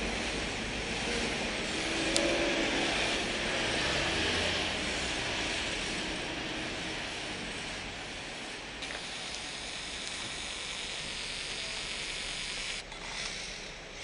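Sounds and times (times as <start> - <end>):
steady hissing noise: 0.0 - 14.0.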